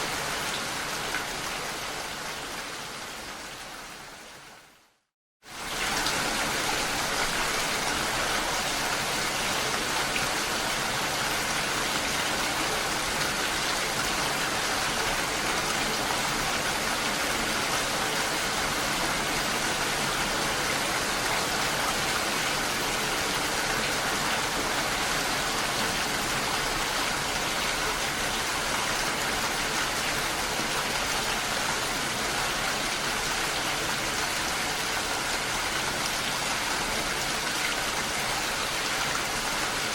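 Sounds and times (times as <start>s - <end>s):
rain falling on lake: 0.0s - 39.9s.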